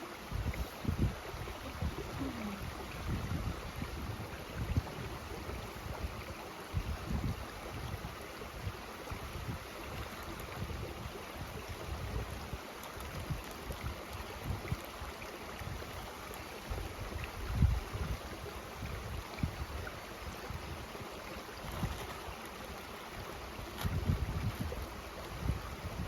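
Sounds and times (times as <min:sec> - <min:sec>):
mountain stream rushing: 0:00.0 - 0:26.0
wind buffeting microphone: 0:00.3 - 0:16.0, 0:16.7 - 0:21.0, 0:23.2 - 0:26.0.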